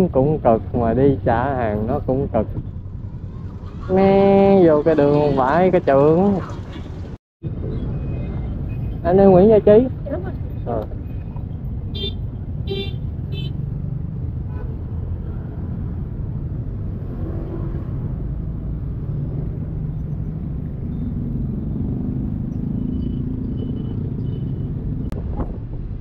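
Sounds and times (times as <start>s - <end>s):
motorbike engine and road rumble: 0.0s - 26.0s.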